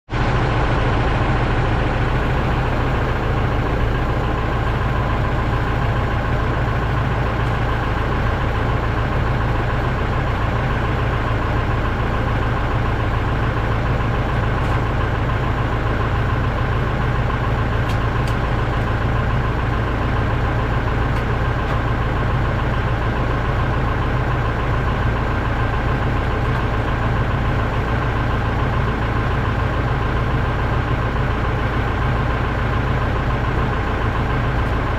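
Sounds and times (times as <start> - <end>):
heavy vehicle engine humming: 0.0 - 34.9.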